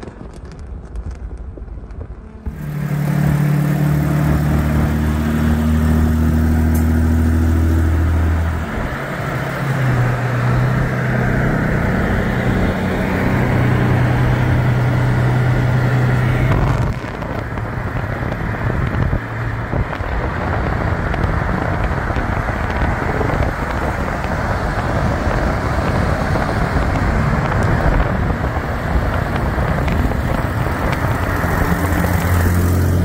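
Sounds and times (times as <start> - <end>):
car engine drone: 0.0 - 33.0
road and wind noise: 0.0 - 33.0.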